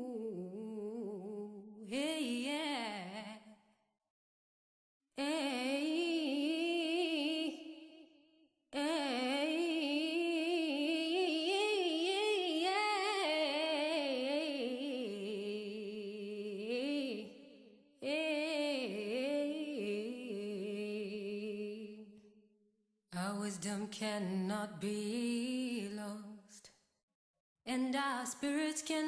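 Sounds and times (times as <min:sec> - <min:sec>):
woman singing a cappella: 0:00.0 - 0:03.6, 0:05.2 - 0:08.1, 0:08.8 - 0:22.3, 0:23.1 - 0:26.8, 0:27.7 - 0:29.0.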